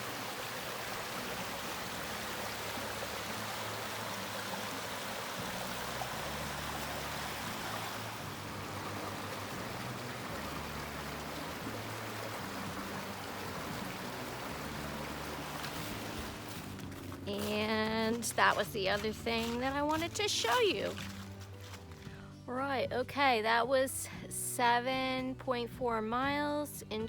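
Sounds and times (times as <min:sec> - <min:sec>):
stream water rushing: 0:00.0 - 0:21.8.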